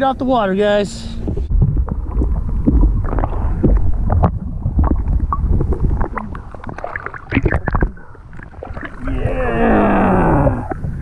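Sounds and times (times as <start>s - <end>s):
wind rumbling on microphone: 1.0s - 11.0s.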